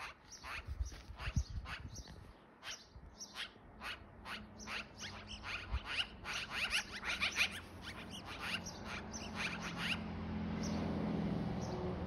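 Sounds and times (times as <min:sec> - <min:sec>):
magpie chattering: 0:00.0 - 0:10.0.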